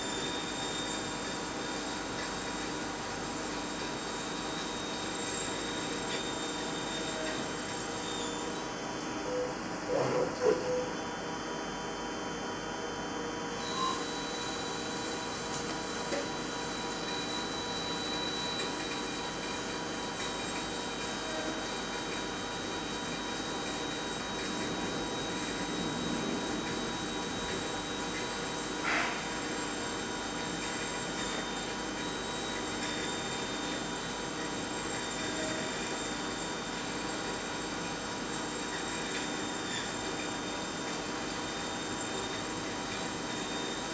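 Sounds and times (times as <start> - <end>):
high steady whine: 0.0 - 36.4
machine running with coolant spray: 0.0 - 43.9.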